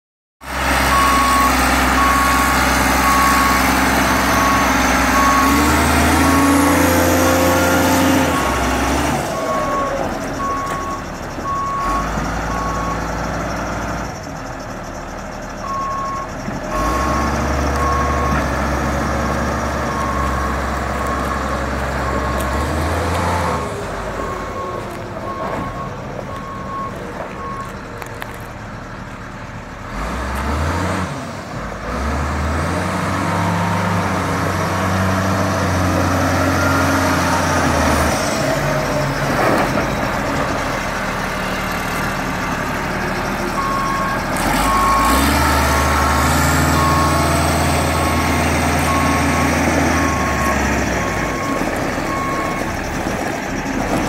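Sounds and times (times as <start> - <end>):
grader engine running: 0.4 - 54.0.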